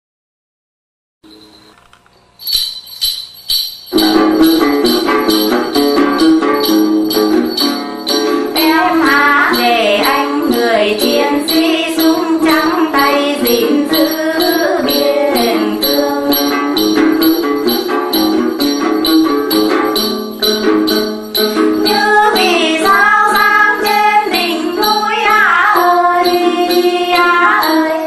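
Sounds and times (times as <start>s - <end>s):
jingle bells shaken: 1.3s - 28.0s
wavering lead melody: 2.6s - 28.0s
plucked strings: 3.9s - 28.0s.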